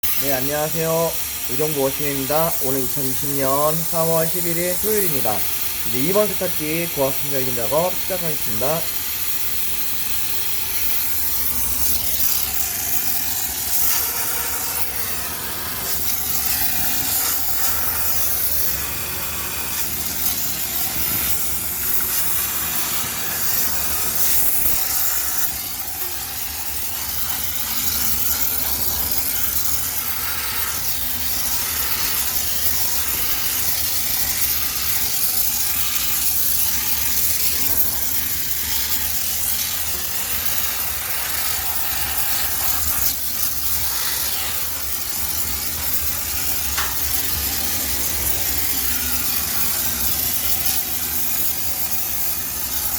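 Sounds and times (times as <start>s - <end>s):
steam cleaner hissing: 0.0s - 52.9s.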